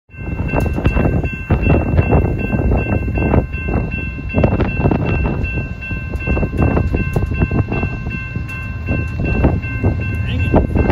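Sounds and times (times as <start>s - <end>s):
crossing warning bell ringing: 0.1s - 10.9s
heavy low train rumble: 0.1s - 10.9s.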